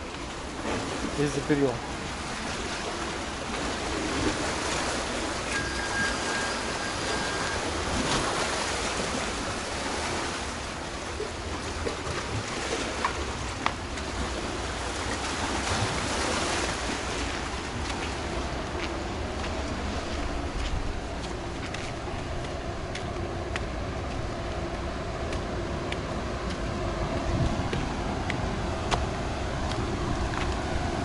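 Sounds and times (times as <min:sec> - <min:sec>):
surf washing on shore: 0:00.0 - 0:31.0
wind rumbling on microphone: 0:01.8 - 0:31.0.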